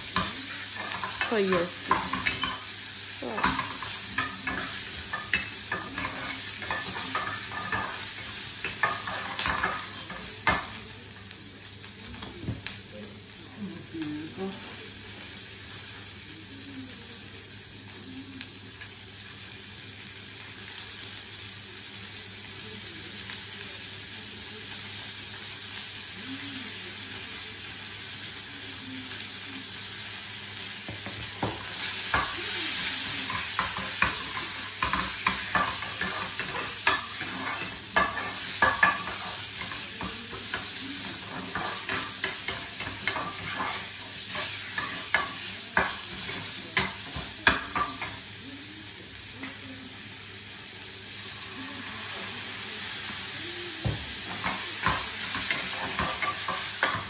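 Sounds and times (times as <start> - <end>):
onions sizzling in a frying pan: 0.0 - 57.0.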